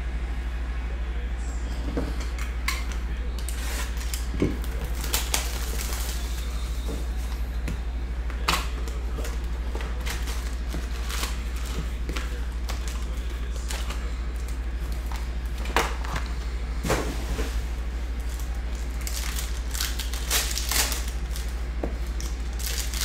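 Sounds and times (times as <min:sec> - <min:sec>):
steady low hum: 0:00.0 - 0:23.0
foil packs crinkling: 0:02.8 - 0:07.7, 0:08.3 - 0:23.0.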